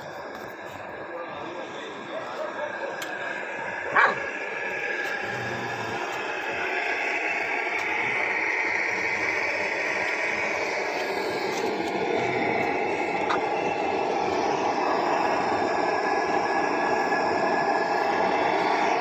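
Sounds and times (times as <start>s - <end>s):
street ambience rushing: 0.0s - 19.0s.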